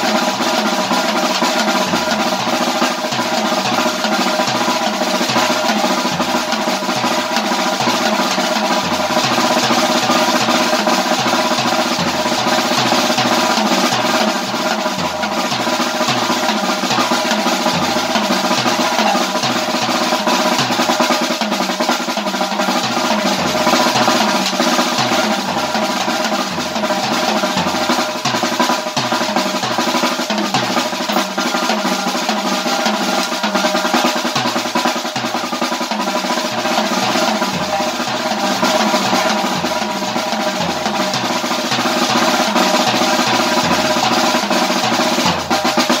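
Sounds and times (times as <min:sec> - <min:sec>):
drum kit groove: 0:00.0 - 0:46.0.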